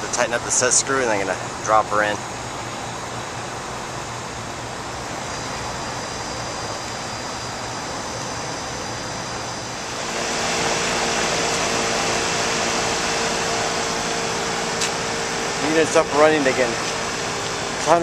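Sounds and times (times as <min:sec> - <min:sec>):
air conditioning rushing: 0:00.0 - 0:18.0
steady fan motor hum: 0:00.0 - 0:18.0.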